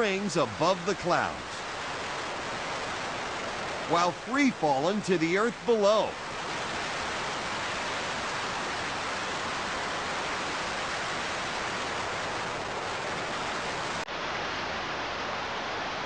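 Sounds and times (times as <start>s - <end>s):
freefall wind rushing: 0.0s - 16.0s.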